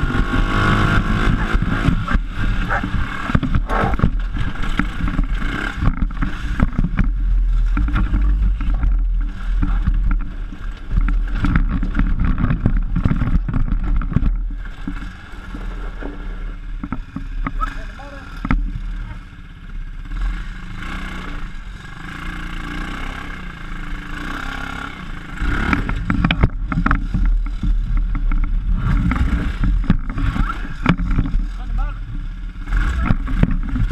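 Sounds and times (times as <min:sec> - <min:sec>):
knocks and jolts over bumps: 0:00.0 - 0:19.9, 0:25.0 - 0:33.9
buggy engine running: 0:00.0 - 0:33.9.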